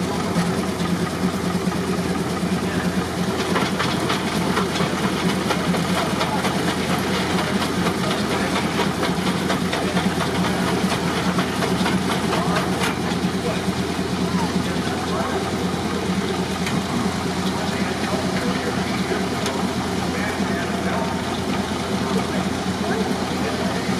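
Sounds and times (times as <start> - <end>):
steam traction engine running: 0.0 - 23.9.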